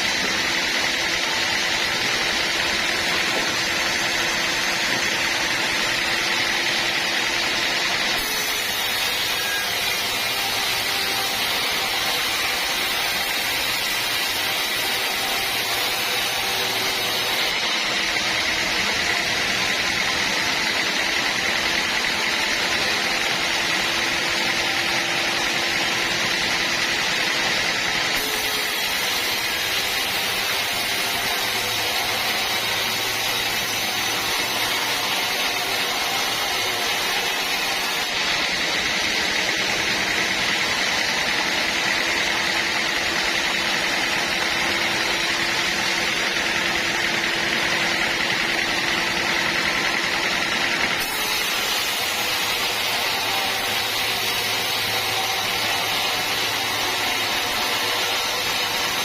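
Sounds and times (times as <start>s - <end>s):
band sawmill sawing a log: 0.0s - 59.0s.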